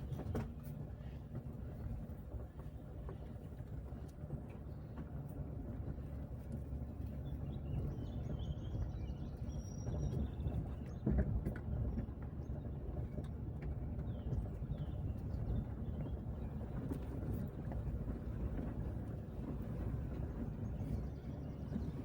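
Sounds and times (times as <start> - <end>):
car tyres rumbling on road: 0.0 - 22.0.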